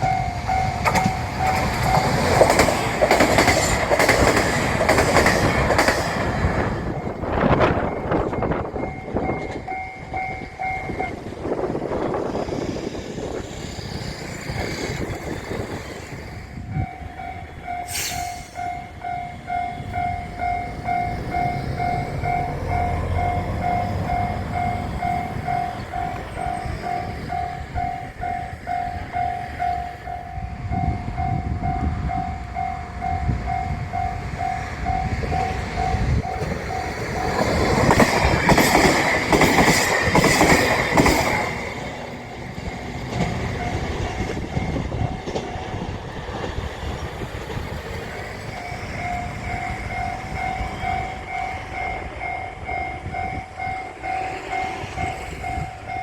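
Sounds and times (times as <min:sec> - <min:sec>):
crossing bell clanging: 0:00.0 - 0:12.2, 0:14.5 - 0:56.0
train rumbling on track: 0:00.0 - 0:56.0.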